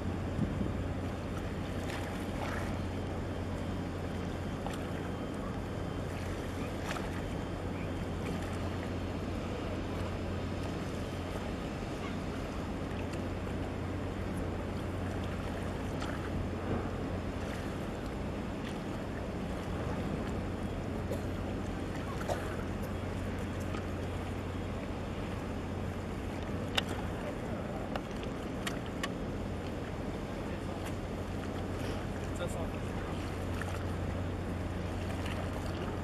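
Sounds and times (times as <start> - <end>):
ship engine hum: 0.0 - 36.0
water wash: 0.0 - 36.0.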